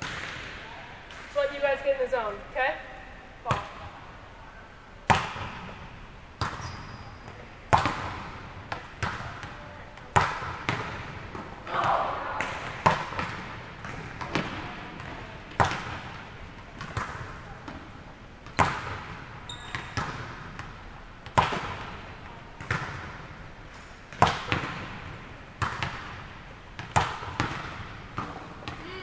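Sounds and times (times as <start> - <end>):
volleyball smacks echoing: 0.0 - 1.4, 5.0 - 6.6, 7.2 - 29.0.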